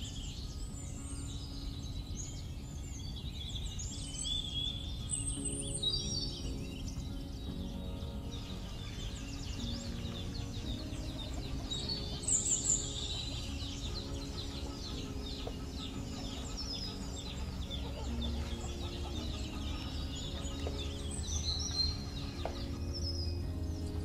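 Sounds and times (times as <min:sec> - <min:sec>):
small birds chirping: 0:00.0 - 0:24.0
soft background music: 0:00.0 - 0:24.0.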